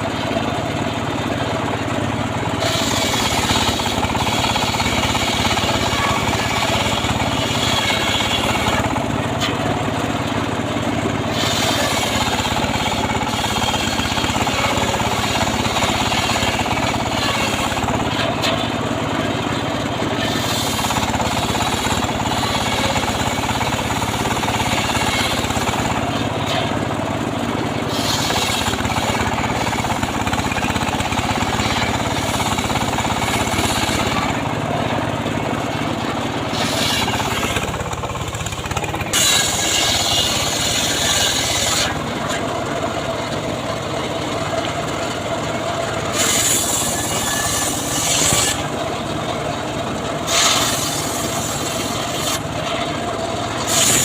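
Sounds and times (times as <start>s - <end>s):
sawmill blade cutting log: 0.0s - 54.0s.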